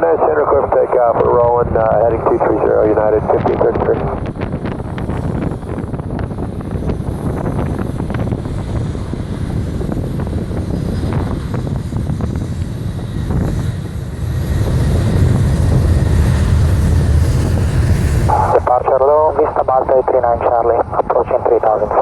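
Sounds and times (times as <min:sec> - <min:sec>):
jet engines at takeoff: 0:00.0 - 0:22.0.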